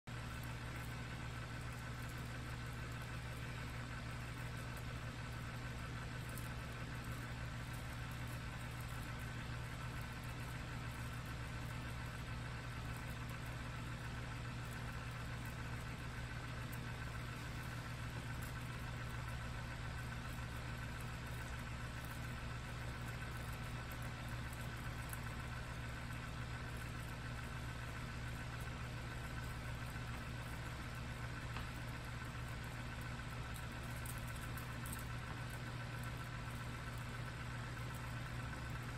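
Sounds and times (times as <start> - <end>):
electric fan motor hum: 0.1 - 38.9.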